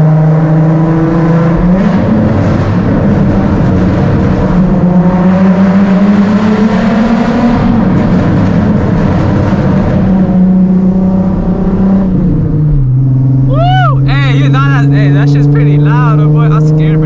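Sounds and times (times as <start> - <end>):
loud car engine exhaust: 0.0 - 17.0.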